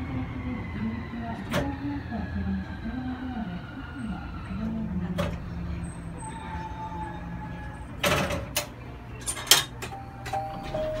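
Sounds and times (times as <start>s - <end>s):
train car humming: 0.0s - 11.0s.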